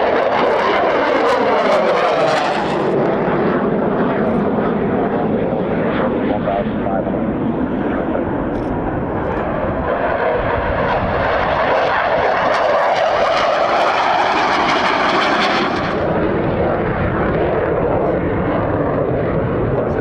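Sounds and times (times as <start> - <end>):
fighter jet taking off: 0.0 - 20.0.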